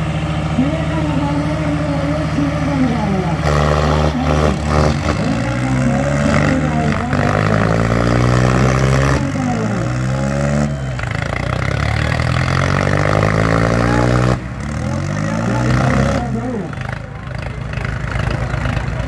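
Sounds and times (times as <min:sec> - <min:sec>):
tractor engines labouring: 0:00.0 - 0:19.0.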